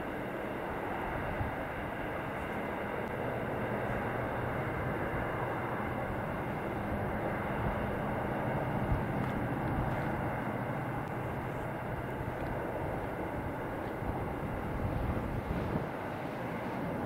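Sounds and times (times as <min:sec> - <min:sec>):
distant diesel locomotive drone: 0:00.0 - 0:17.0.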